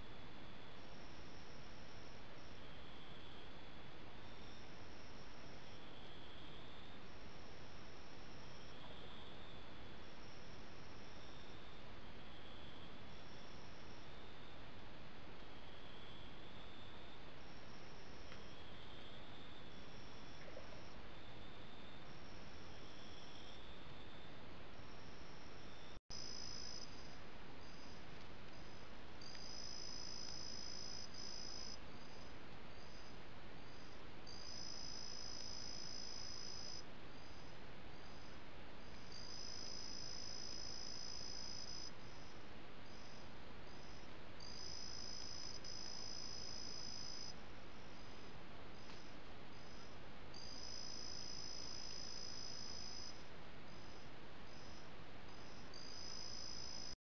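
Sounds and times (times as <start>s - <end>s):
insect chirps: 0.0s - 14.6s, 15.6s - 57.0s.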